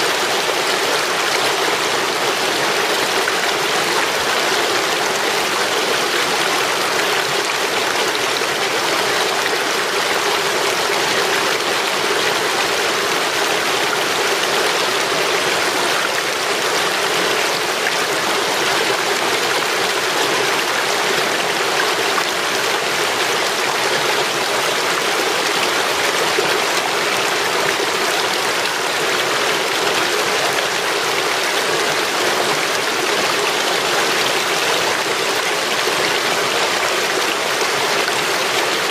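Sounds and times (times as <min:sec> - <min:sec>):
stream rushing over logs: 0:00.0 - 0:38.9.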